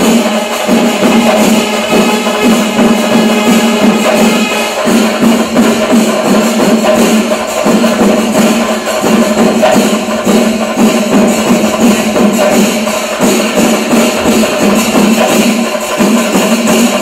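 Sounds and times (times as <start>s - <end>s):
cymbals clashing: 0.0s - 17.0s
drums beating: 0.0s - 17.0s.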